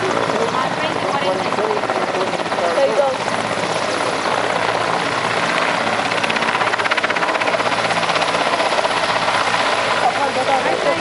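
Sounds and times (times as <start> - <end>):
helicopter rotor blades chopping: 0.0 - 11.0.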